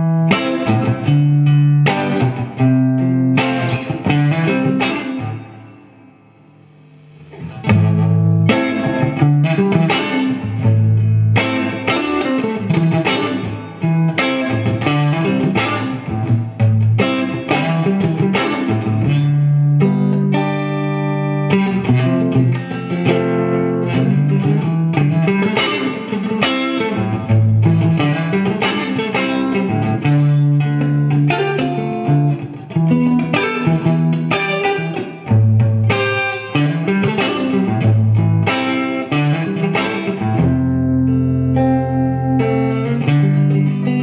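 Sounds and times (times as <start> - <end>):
electric guitar notes and chords: 0.0 - 44.0.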